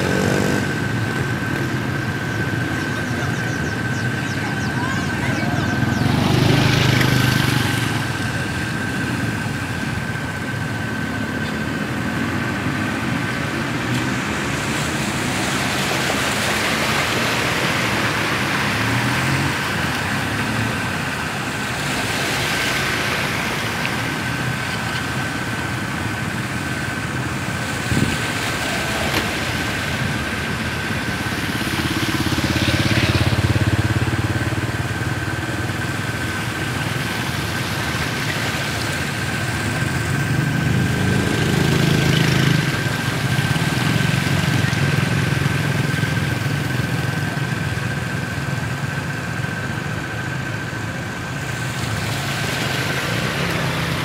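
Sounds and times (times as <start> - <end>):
tyres pushing rushing water: 0.0 - 54.0
vehicle engines running: 0.0 - 54.0.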